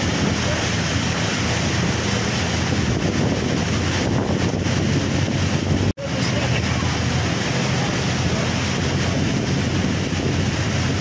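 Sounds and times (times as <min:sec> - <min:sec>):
floodwater rushing: 0:00.0 - 0:11.0
wind buffeting microphone: 0:00.0 - 0:11.0.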